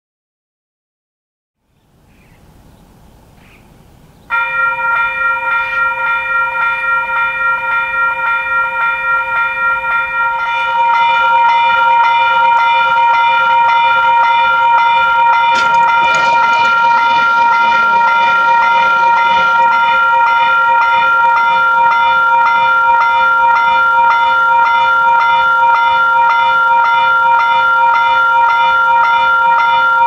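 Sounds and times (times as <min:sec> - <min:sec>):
level crossing warning bell: 0:04.3 - 0:30.0.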